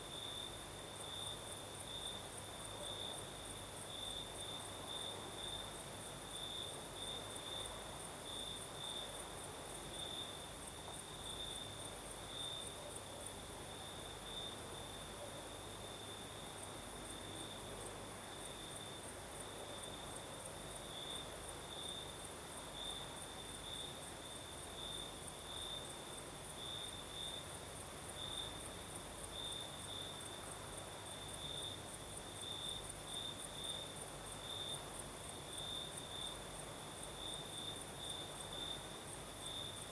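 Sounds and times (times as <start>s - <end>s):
crickets pulsing chirp: 0.0s - 39.9s.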